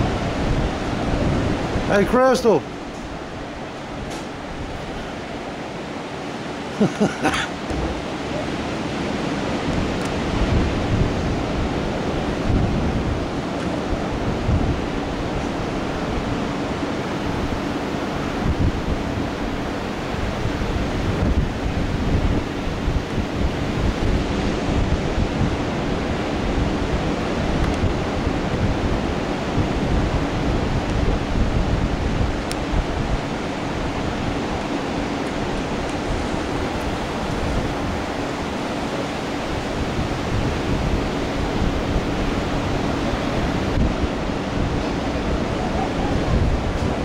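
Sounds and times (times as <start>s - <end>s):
ocean surf breaking: 0.0s - 47.0s
wind buffeting microphone: 0.0s - 47.0s.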